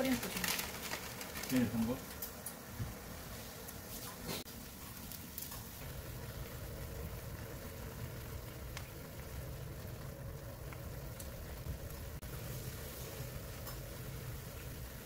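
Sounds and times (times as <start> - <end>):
broth boiling hard: 0.0 - 15.0.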